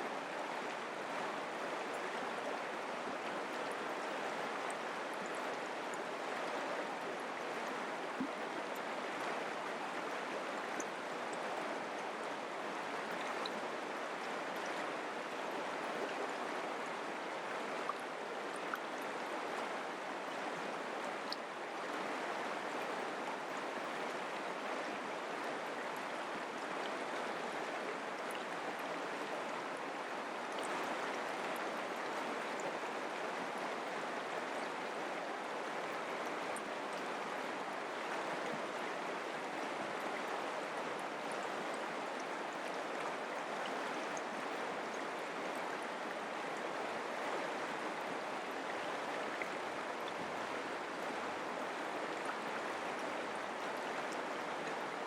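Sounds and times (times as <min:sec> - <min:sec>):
creek water babbling over rocks: 0:00.0 - 0:55.0.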